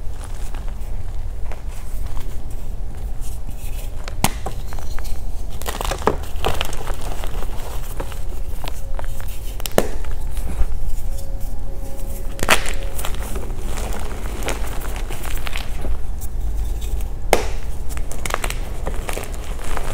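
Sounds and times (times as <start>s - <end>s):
chalk crunching by hand: 0.0s - 19.9s
steady low rumble: 0.0s - 19.9s.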